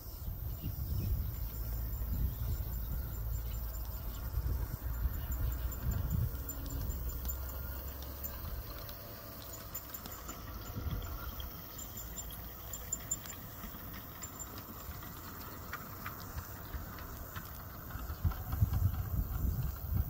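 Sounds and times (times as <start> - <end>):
light clicks of wheels over track: 0.0 - 20.0
model train wheels rumbling on track: 0.0 - 20.0.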